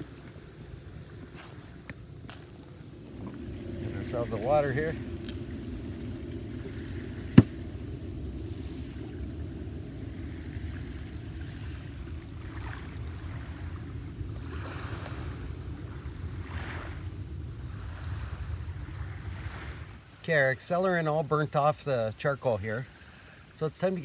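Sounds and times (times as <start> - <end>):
wind and waves: 0.0 - 24.0.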